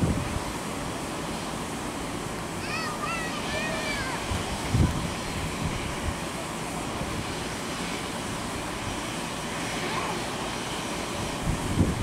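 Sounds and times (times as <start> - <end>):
jet engines at taxi idle: 0.0 - 12.0.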